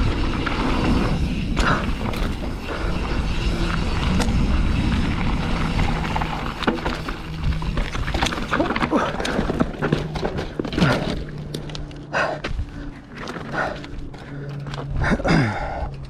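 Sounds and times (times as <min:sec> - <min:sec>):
bike tyres rumbling on dirt: 0:00.0 - 0:15.8
bike clicks and rattles: 0:00.0 - 0:16.0.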